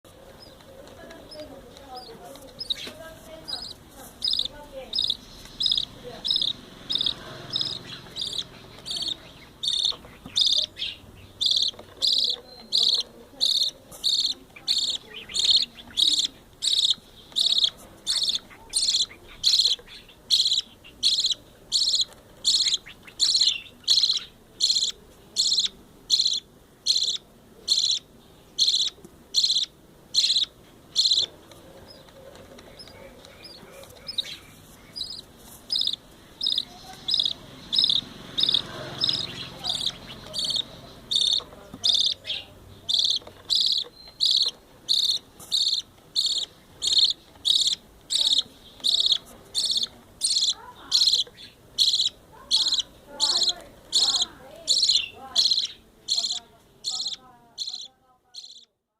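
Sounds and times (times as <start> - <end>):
bird chick chirping begging calls: 0.1 - 58.7.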